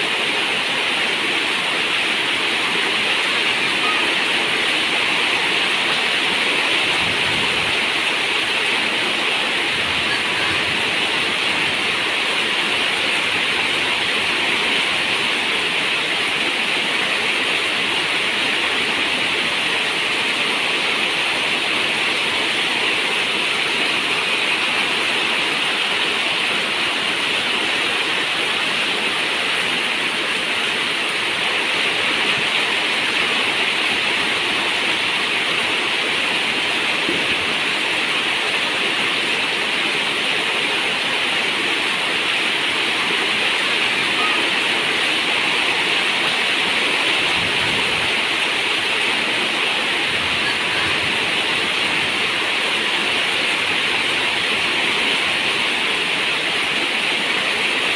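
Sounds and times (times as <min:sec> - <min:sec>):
heavy rain on a metal roof: 0:00.0 - 0:57.9.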